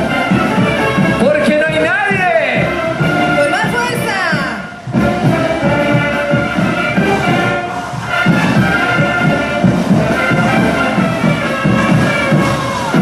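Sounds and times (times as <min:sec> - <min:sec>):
band music: 0:00.0 - 0:13.0
steady drum beat: 0:00.0 - 0:13.0.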